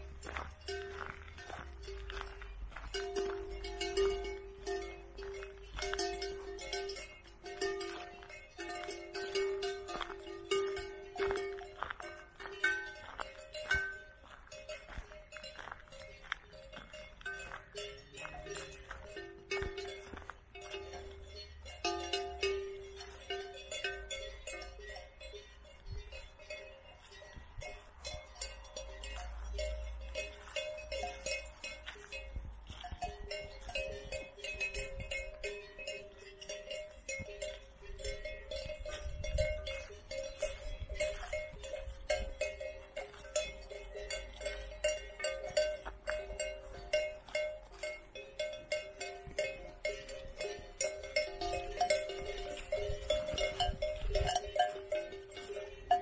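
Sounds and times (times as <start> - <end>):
cow bells clanking: 0.0 - 56.0.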